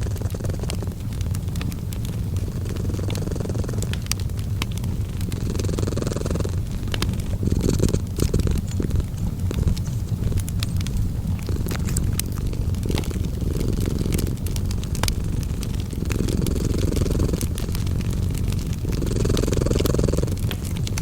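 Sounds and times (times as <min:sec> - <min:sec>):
cat purring: 0:00.0 - 0:21.0
wood fire crackling: 0:00.0 - 0:21.0.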